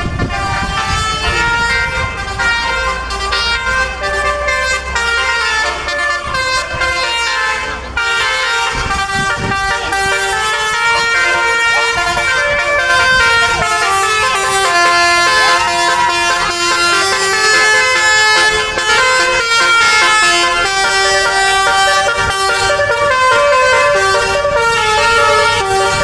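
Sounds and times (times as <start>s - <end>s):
bus horn playing a tune: 0.0s - 26.0s.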